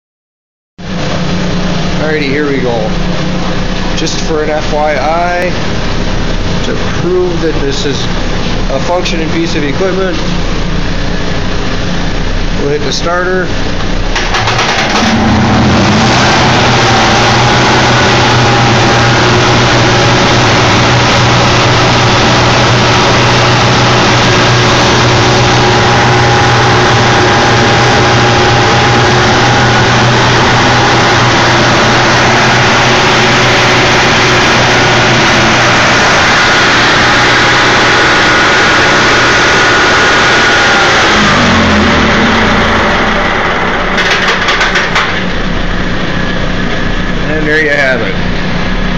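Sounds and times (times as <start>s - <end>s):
generator engine running: 0.8s - 48.9s.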